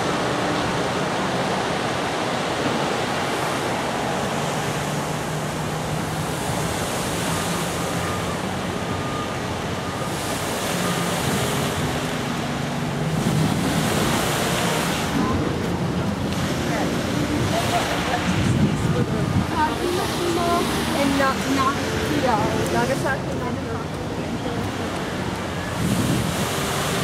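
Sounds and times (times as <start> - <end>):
fountain jets splashing into pool: 0.0 - 27.0.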